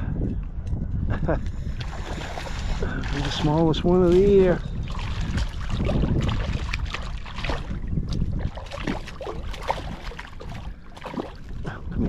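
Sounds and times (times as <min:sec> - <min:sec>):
wind noise: 0:00.0 - 0:12.0
water noise: 0:01.4 - 0:12.0
water splashes: 0:01.6 - 0:12.0.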